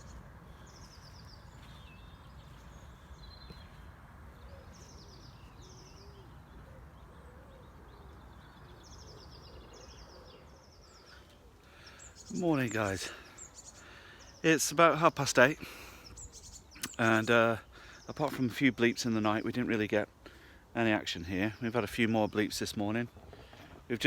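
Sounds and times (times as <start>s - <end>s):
small birds singing: 0.0s - 24.0s.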